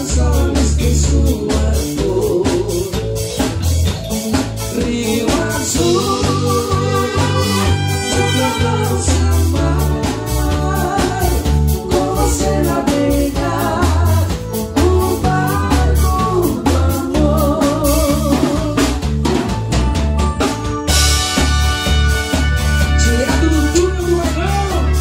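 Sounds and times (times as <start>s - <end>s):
person singing: 0.0s - 19.1s, 22.9s - 25.0s
drum kit: 0.0s - 25.0s
electric bass: 0.0s - 25.0s
electric guitar: 0.0s - 25.0s
keyboard: 0.0s - 25.0s.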